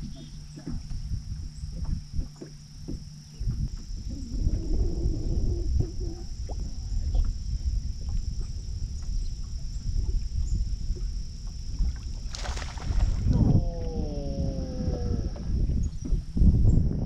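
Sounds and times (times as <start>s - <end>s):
water against boat hull: 0.0s - 16.7s
wind rumbling on microphone: 0.0s - 17.0s.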